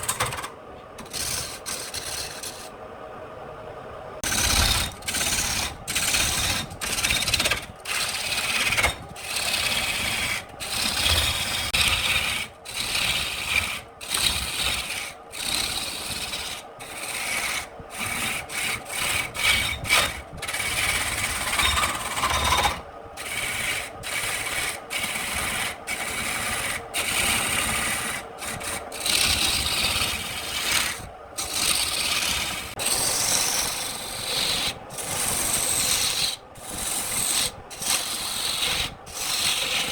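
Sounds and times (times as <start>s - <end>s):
lathe tool scraping spinning wood: 0.0s - 2.7s, 4.2s - 39.9s.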